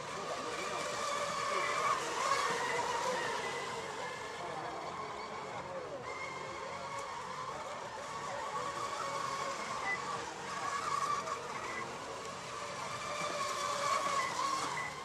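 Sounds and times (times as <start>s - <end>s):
racing boat motors whining: 0.0s - 15.0s.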